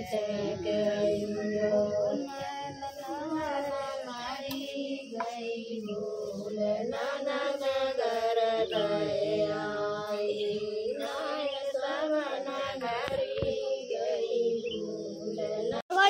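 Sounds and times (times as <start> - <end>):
women singing folk song: 0.0 - 16.0.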